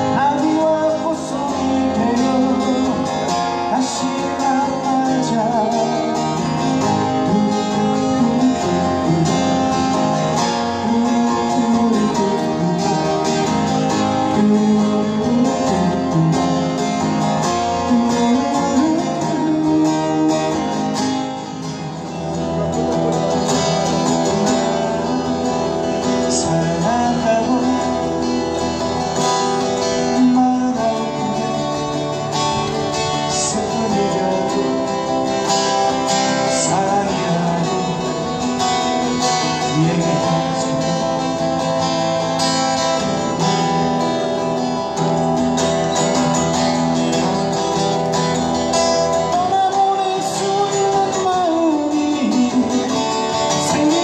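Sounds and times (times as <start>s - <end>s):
man singing: 0.0s - 44.2s, 48.1s - 54.0s
acoustic guitars strummed and picked: 0.0s - 54.0s.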